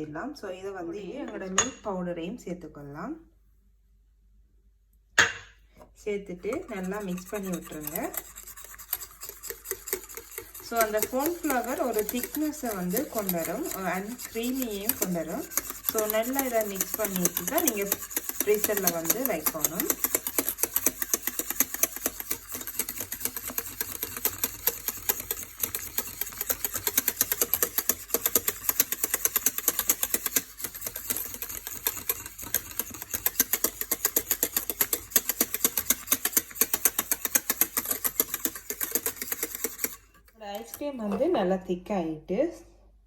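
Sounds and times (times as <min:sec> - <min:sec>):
mixture beaten in bowl clicking: 0:06.3 - 0:41.3.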